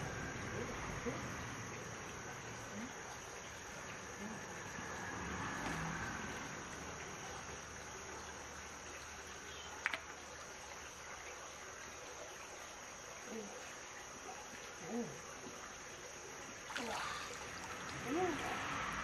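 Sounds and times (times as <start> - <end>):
shallow stream water hissing: 0.0 - 19.0.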